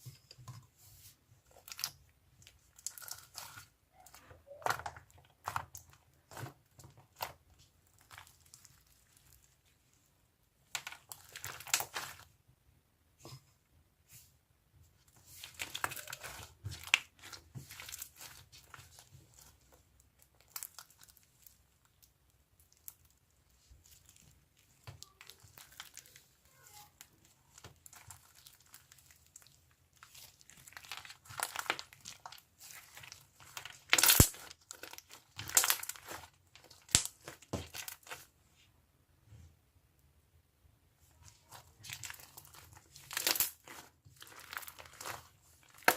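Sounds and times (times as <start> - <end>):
slime crackling and popping: 1.5 - 9.7, 10.6 - 12.4, 15.2 - 38.3, 41.2 - 45.9.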